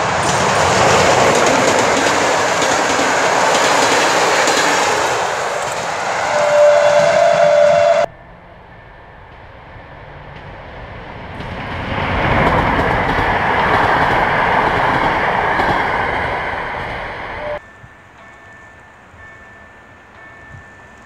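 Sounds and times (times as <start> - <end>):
train passing close by: 0.0 - 21.0
train whine: 0.0 - 21.0.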